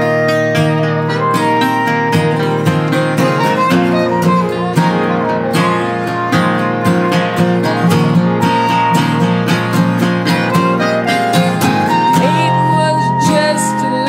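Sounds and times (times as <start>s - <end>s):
acoustic guitars playing: 0.0s - 14.0s.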